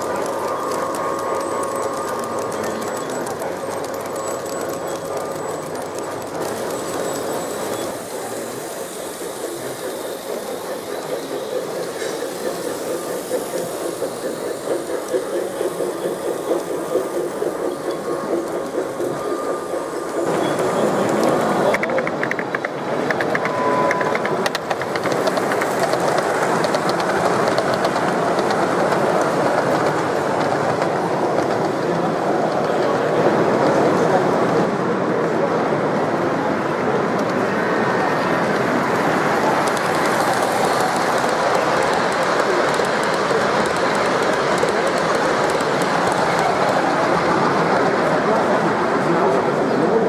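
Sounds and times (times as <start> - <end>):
model trains rolling on track: 0.0 - 50.0.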